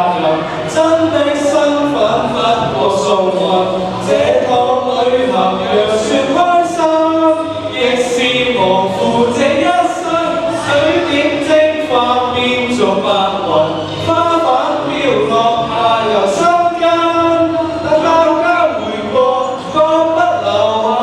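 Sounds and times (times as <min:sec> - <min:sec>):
person singing pop song: 0:00.0 - 0:21.0.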